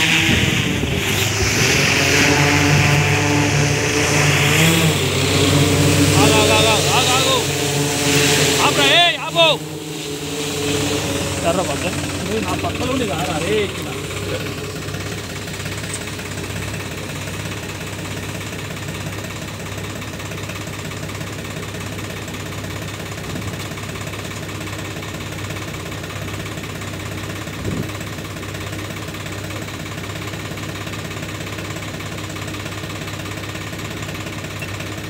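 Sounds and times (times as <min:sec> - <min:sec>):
tractor engine idling: 0:00.0 - 0:35.0.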